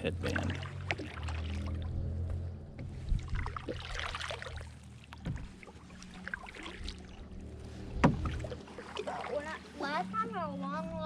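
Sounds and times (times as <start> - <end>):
water splashing against a canoe: 0.0 - 10.9.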